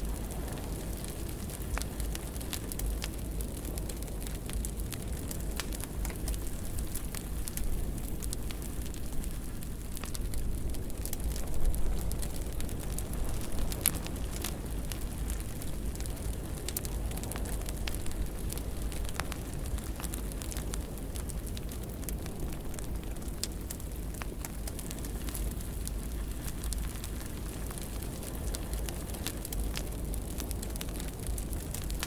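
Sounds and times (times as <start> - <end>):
fire flames rumbling: 0.0 - 32.0
fire popping and crackling: 0.0 - 32.0.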